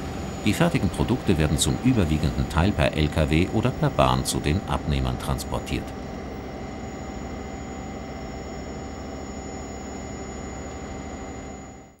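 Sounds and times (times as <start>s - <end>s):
machinery hum: 0.0s - 12.0s
thin whining tones: 0.1s - 12.0s.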